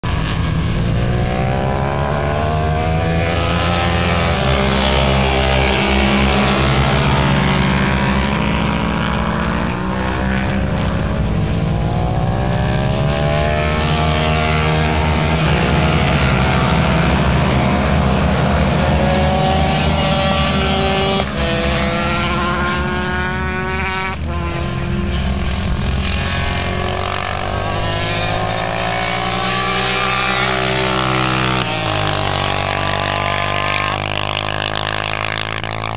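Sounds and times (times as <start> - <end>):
racing motorcycles passing: 0.0 - 35.9.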